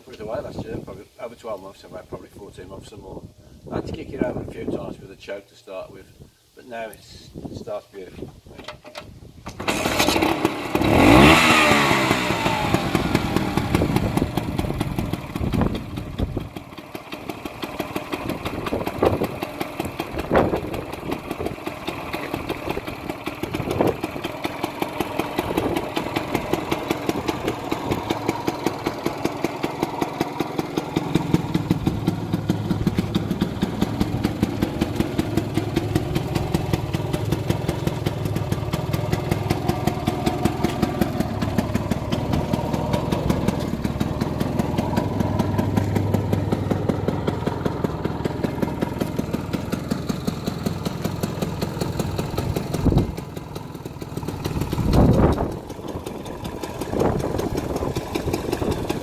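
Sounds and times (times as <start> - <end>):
scooter engine kick-started and revving: 8.6 - 59.0.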